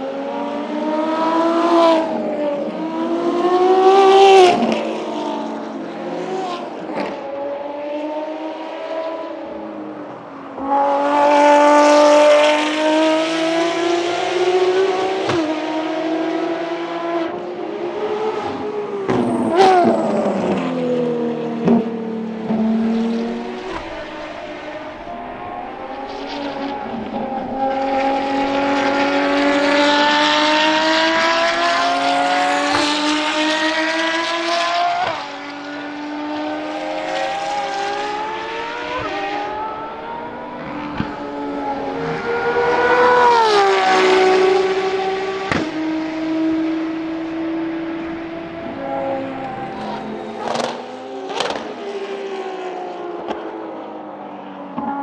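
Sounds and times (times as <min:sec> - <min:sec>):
race car engines at high revs: 0:00.0 - 0:55.0.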